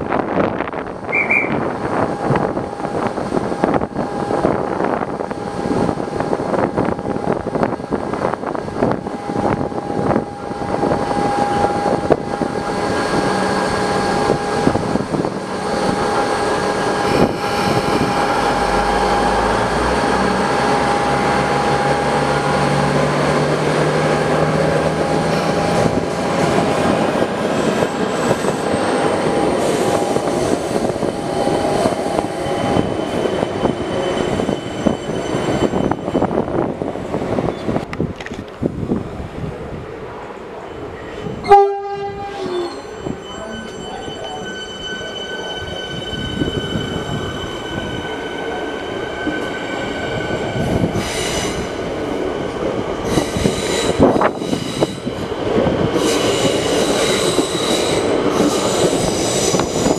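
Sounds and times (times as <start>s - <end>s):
train humming and whining: 0.0s - 59.9s
train pulling in: 0.0s - 59.9s.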